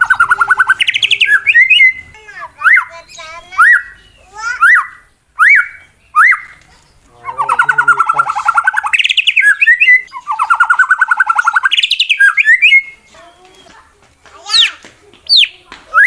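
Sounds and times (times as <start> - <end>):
bird whistles and rattling trills: 0.0 - 2.0, 2.7 - 16.0.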